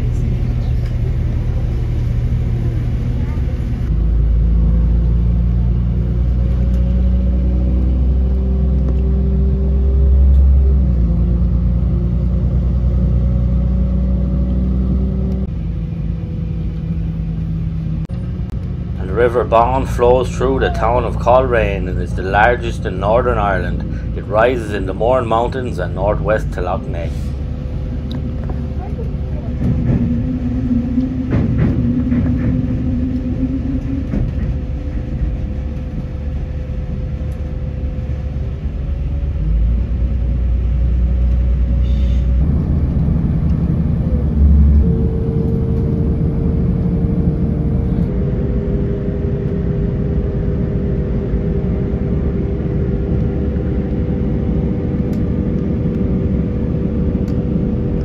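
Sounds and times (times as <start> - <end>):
diesel engine drone: 0.0 - 58.0
train wheels rumbling on rail: 0.0 - 58.0.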